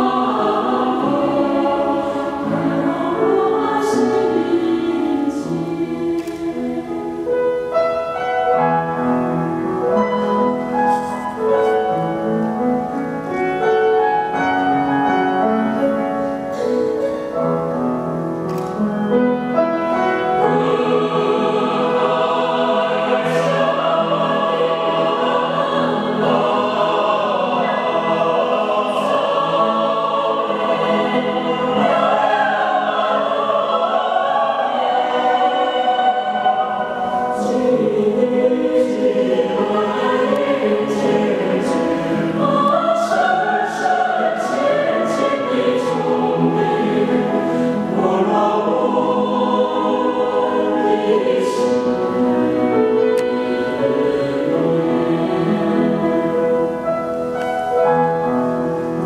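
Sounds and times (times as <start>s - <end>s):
choir singing in harmony: 0.0s - 59.0s
piano accompaniment: 0.0s - 59.0s.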